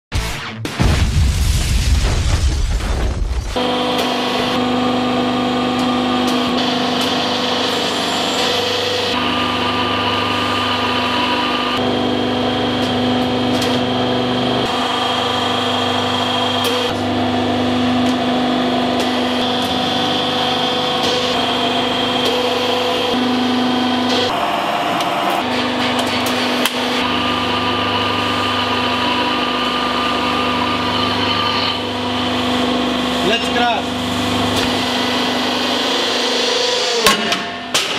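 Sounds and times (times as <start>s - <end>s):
hydraulic pump hum and whine: 2.7s - 37.9s.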